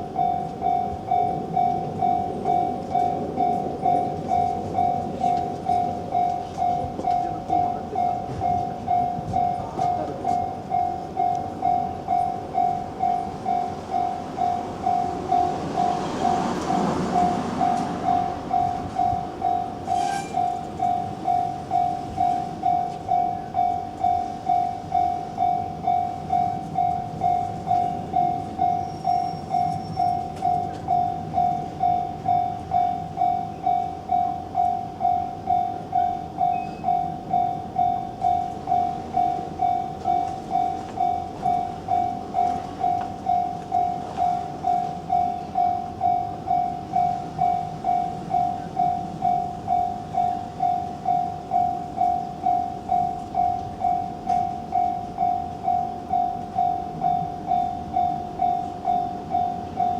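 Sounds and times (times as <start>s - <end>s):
level crossing bell ringing: 0.0s - 59.9s.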